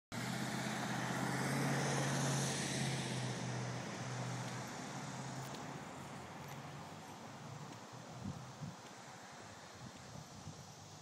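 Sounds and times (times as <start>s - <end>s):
car engine hum and tyre noise: 0.1s - 11.0s.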